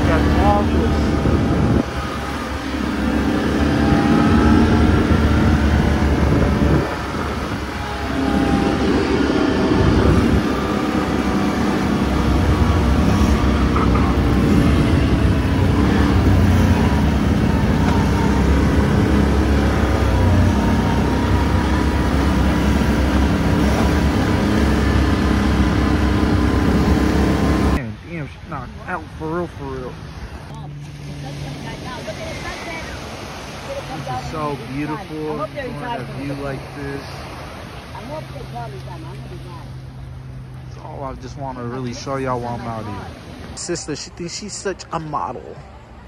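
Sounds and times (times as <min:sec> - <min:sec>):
off-road vehicle engine rumbling: 0:00.0 - 0:46.0.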